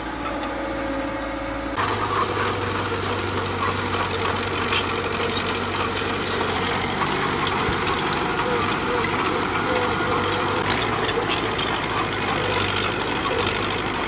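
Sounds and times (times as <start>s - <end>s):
bulldozer diesel engine: 0.0s - 14.0s
engine clattering: 1.7s - 14.0s.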